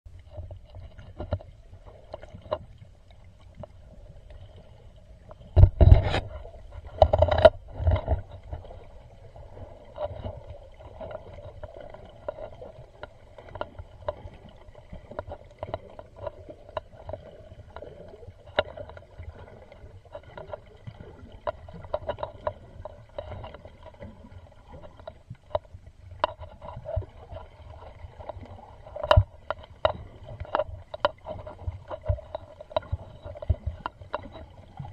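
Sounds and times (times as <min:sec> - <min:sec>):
underwater low rumble: 0:00.1 - 0:34.9.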